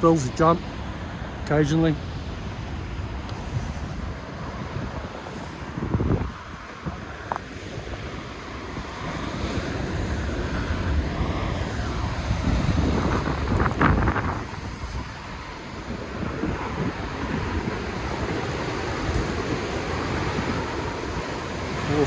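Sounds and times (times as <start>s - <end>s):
heavy surf breaking: 0.0s - 22.0s
wind buffeting microphone: 0.0s - 22.0s.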